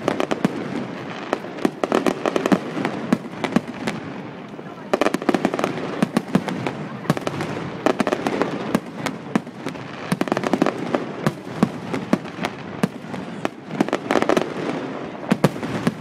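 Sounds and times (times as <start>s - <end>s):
fireworks crackling: 0.0s - 16.0s
fireworks cracks and bangs: 0.0s - 16.0s.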